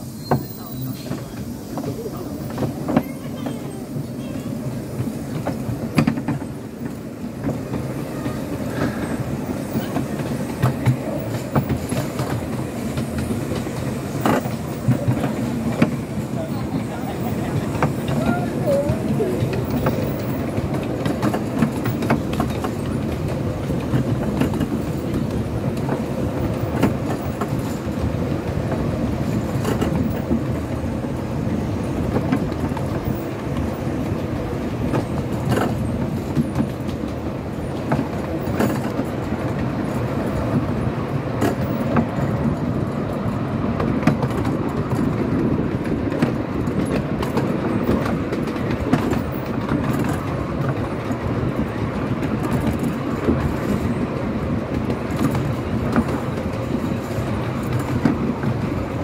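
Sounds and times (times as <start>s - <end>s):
wheels rumbling on rail: 0.0s - 59.0s
wheels clicking over rail joints: 0.2s - 59.0s.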